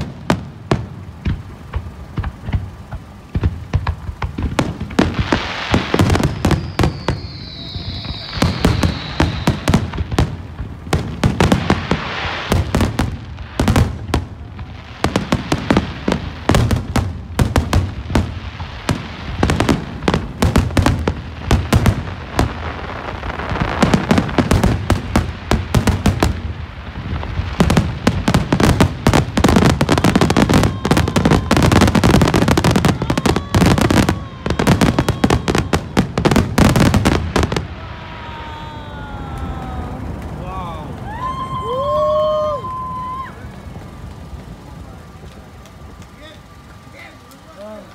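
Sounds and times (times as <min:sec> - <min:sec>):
fireworks bangs and crackling: 0:00.0 - 0:47.9
high firework whistle: 0:04.5 - 0:47.9.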